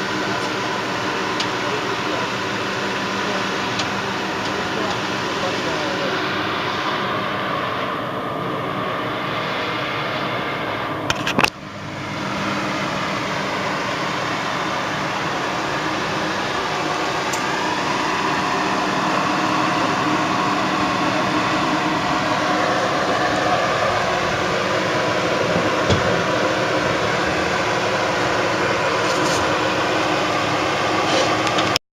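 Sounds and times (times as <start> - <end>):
pickup truck engine running: 0.0 - 31.8.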